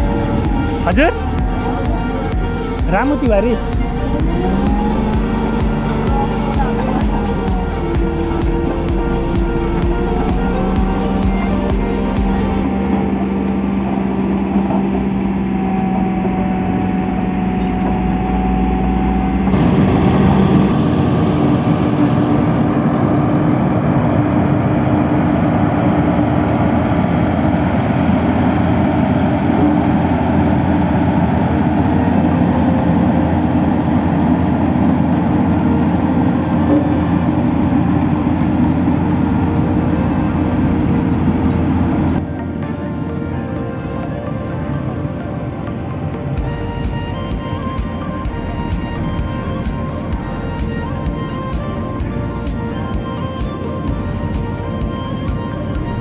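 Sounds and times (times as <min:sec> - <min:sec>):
diesel engine humming: 0:00.0 - 0:56.0
road roller diesel engine: 0:00.0 - 0:56.0.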